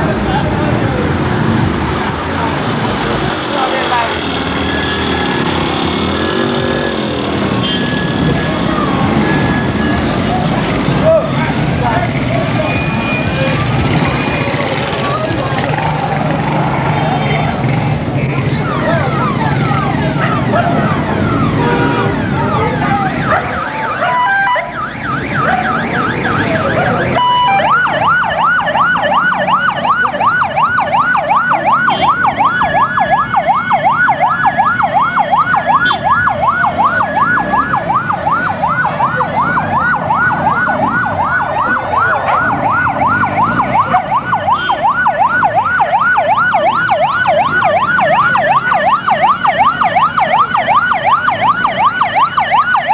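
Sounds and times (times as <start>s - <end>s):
vehicle engine noise: 0.0s - 52.9s
overlapping siren wails: 3.3s - 52.9s
fast yelping siren: 4.1s - 16.4s, 18.4s - 52.9s.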